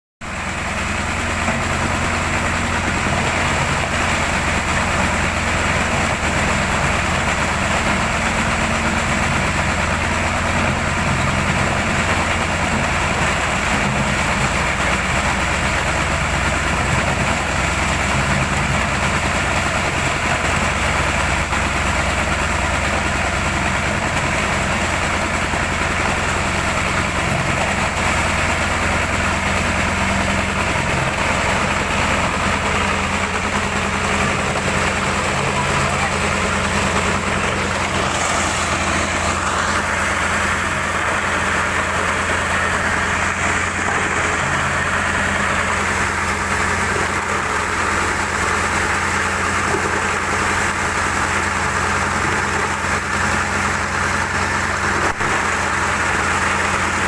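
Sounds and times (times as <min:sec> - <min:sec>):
machine running loudly: 0:00.2 - 0:57.0.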